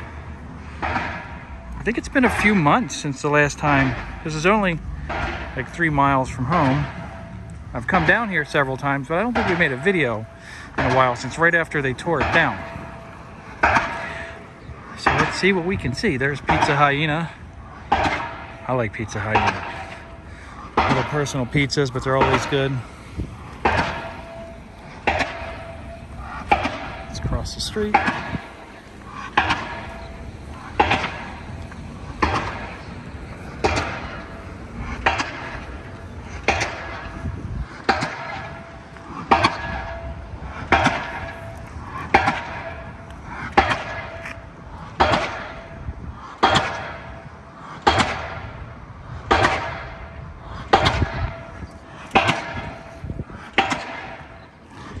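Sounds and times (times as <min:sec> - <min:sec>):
pile driver hammer banging: 0:00.0 - 0:55.0.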